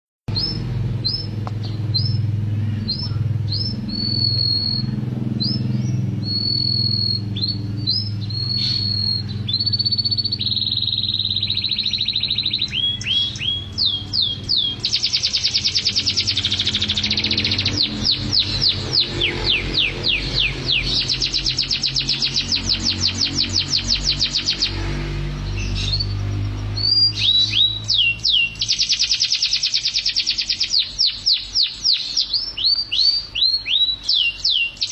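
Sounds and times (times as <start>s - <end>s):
steady low hum: 0.3s - 33.4s
canary singing: 0.3s - 34.9s.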